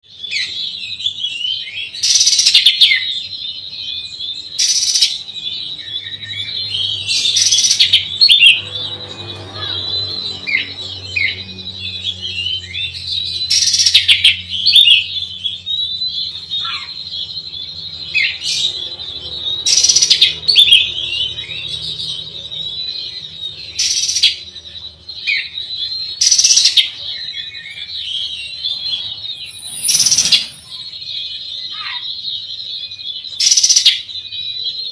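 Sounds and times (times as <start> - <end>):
bird chirps and whistles: 0.0 - 34.9
loud noisy bird note: 0.0 - 34.9.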